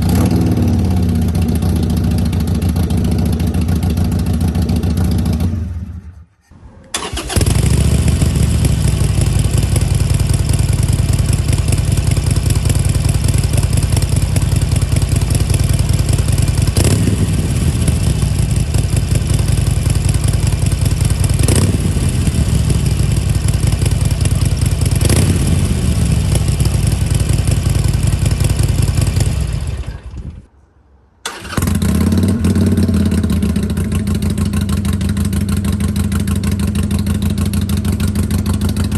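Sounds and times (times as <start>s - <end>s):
motorcycle engine idling: 0.0s - 6.0s, 7.0s - 30.4s, 31.3s - 38.9s.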